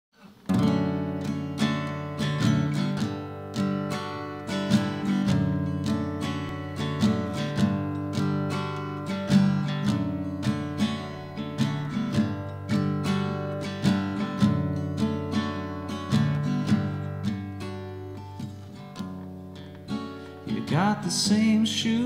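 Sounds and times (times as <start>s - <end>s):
acoustic guitar strumming chords: 0.2s - 22.0s.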